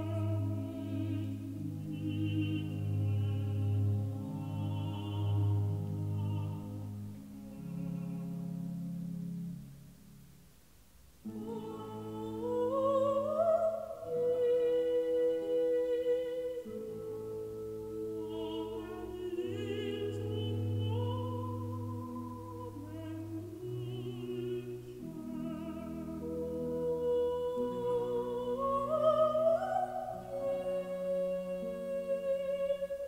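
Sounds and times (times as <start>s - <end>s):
slow operatic classical music: 0.0s - 33.0s.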